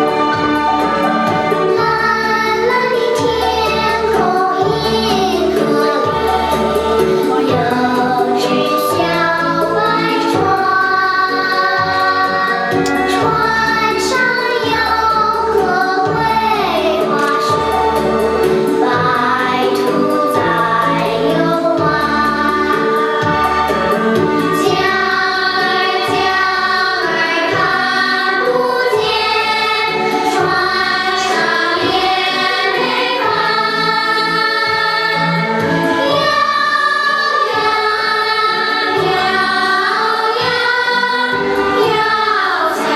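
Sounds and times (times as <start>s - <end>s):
children's choir singing: 0.0s - 42.9s
instrumental accompaniment with bass: 0.0s - 42.9s.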